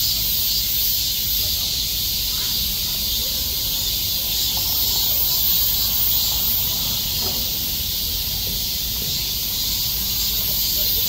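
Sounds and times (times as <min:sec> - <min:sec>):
cicadas chorus: 0:00.0 - 0:11.0.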